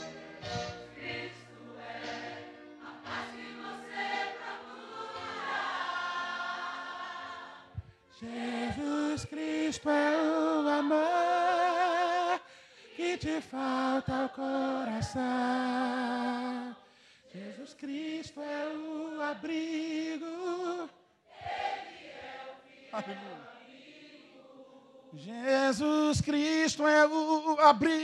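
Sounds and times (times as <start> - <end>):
gospel choir singing: 0.0 - 27.5.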